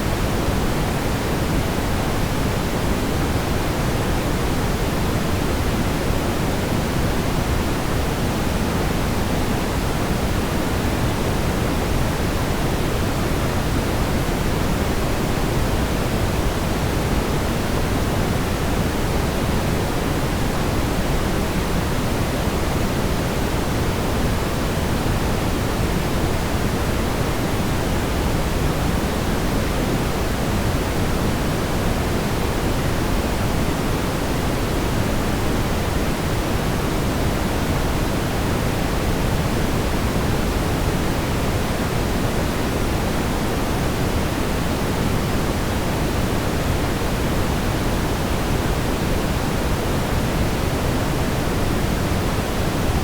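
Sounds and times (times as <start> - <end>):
low brown noise hiss: 0.0 - 53.0.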